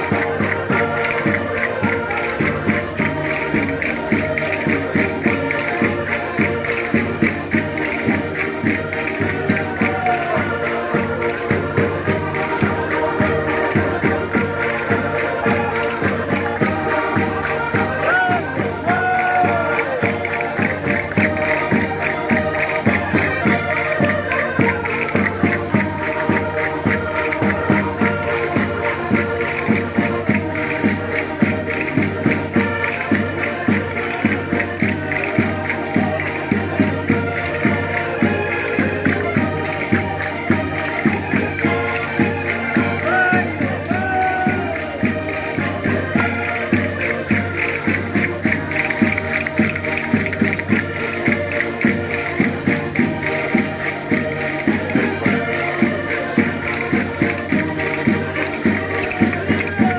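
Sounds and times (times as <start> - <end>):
concertinas playing folk tune: 0.0 - 59.9
percussive beat: 0.0 - 59.9.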